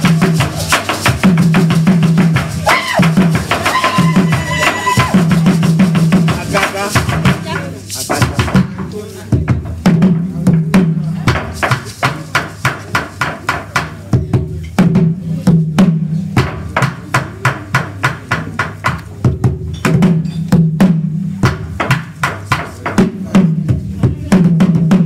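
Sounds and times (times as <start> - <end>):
deep booming drum tones: 0.0 - 12.2, 13.2 - 25.0
sharp hand-drum strokes: 0.0 - 25.0.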